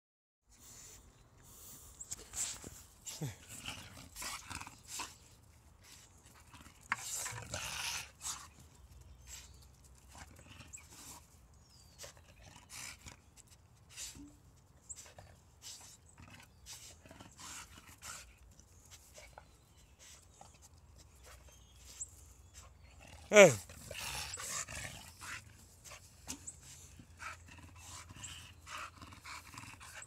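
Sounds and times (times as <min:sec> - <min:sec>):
dogs breathing: 0:00.5 - 0:30.0.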